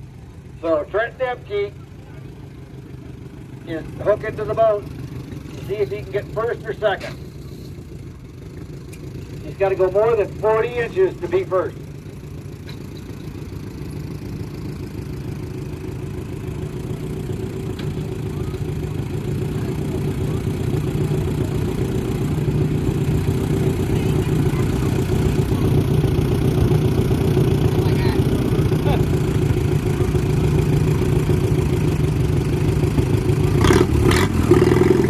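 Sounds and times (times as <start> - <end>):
tractor engine pulling: 0.0 - 35.0.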